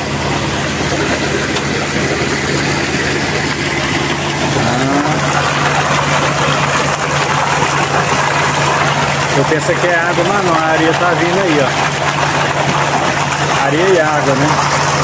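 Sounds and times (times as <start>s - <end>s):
engine droning: 0.0s - 15.0s
slurry gushing from hose: 0.0s - 15.0s.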